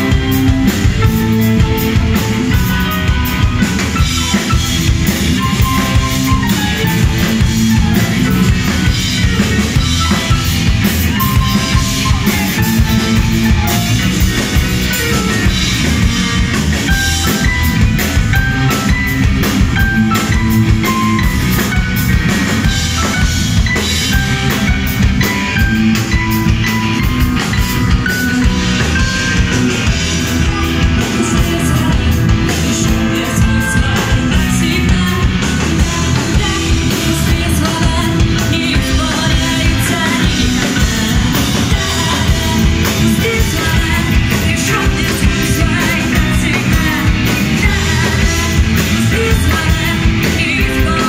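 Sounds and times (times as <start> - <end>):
bass guitar: 0.0 - 51.0
drum kit beat: 0.0 - 51.0
electric guitar: 0.0 - 51.0.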